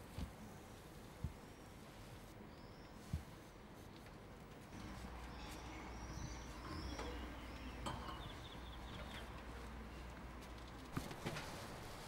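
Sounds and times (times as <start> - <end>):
small birds chirping: 0.2 - 4.0, 4.7 - 10.8.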